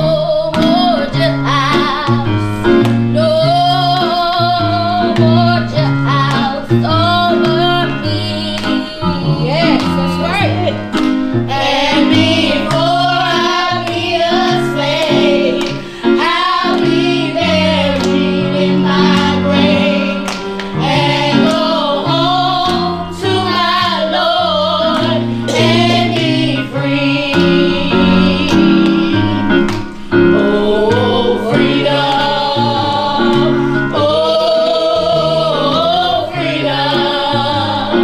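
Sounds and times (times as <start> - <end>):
held bass notes accompaniment: 0.0 - 38.0
women and girls singing gospel: 0.0 - 38.0.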